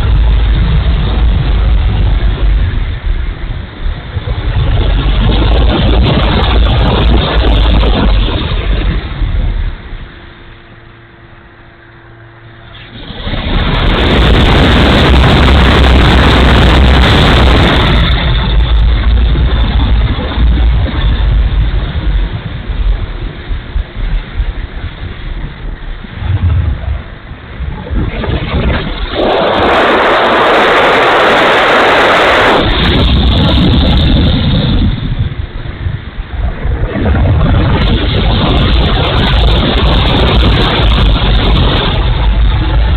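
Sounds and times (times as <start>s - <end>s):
faint steady hum: 0.0s - 42.9s
rushing wind blast: 0.0s - 42.9s
wind buffeting microphone: 0.0s - 42.9s.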